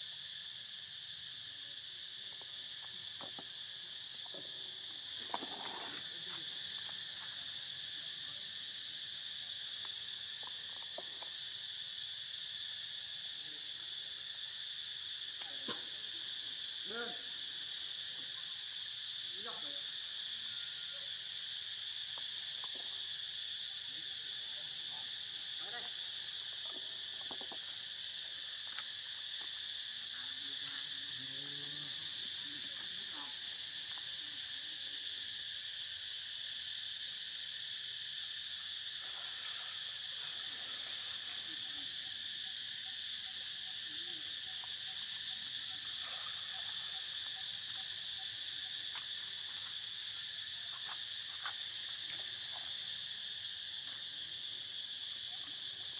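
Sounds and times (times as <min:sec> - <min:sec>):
insect chorus droning: 0:00.0 - 0:55.9.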